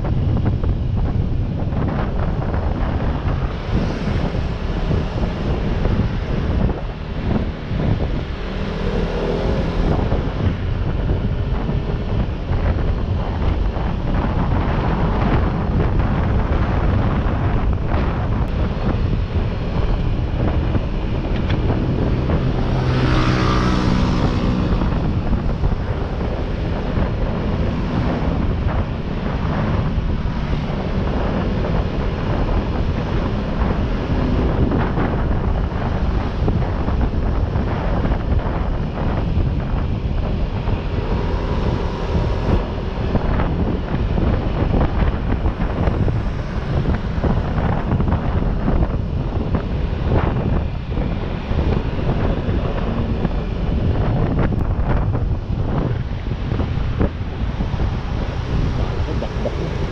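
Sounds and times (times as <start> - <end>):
rumbling vehicle noise: 0.0 - 59.9
wind buffeting microphone: 0.0 - 59.9.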